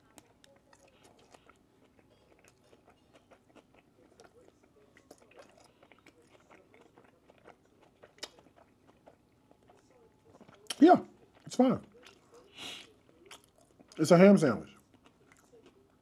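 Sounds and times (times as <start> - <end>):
chewing with mouth clicks: 0.0 - 14.0, 14.7 - 16.0.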